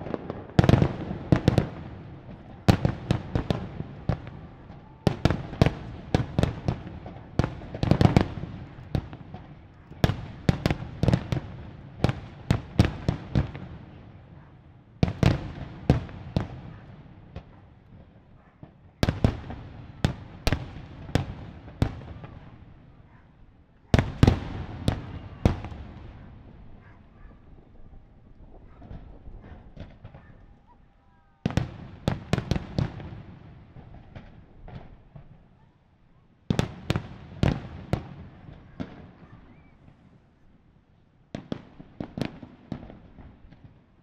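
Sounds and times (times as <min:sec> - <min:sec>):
fireworks bursting with bangs: 0:00.0 - 0:22.9, 0:23.9 - 0:30.6, 0:31.4 - 0:35.5, 0:36.5 - 0:40.2, 0:41.3 - 0:43.8
fireworks rumble: 0:00.0 - 0:35.6, 0:36.4 - 0:44.0.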